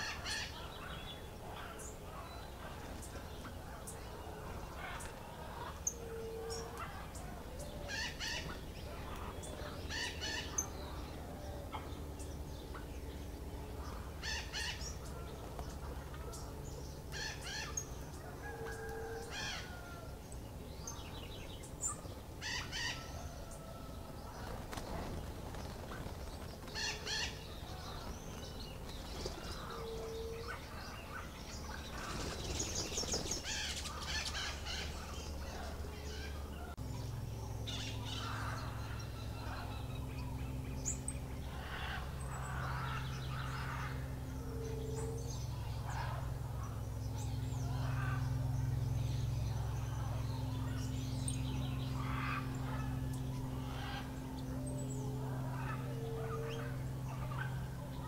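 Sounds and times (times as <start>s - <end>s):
birds chirping: 0.0s - 58.0s
low hoots: 0.0s - 58.0s.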